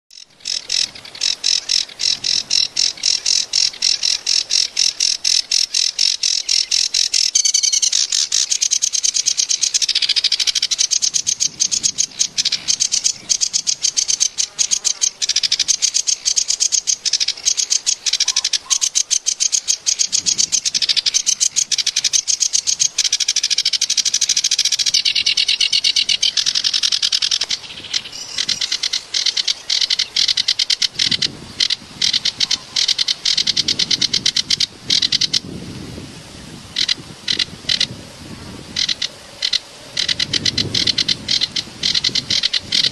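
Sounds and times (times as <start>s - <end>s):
small bird chirping: 0.1s - 35.3s, 38.8s - 42.9s.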